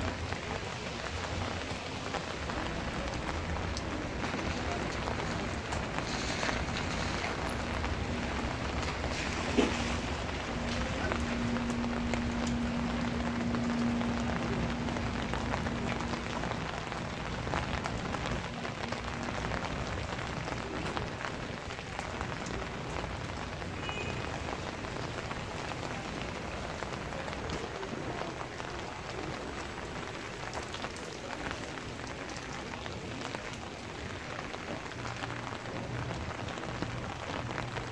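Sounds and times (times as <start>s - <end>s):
rain falling: 0.0s - 37.9s
raindrops ticking on surfaces: 0.0s - 37.9s.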